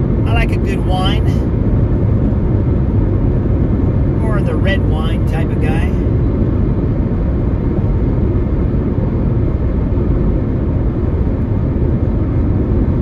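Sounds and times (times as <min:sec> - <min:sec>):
car cabin road and wind noise: 0:00.0 - 0:13.0.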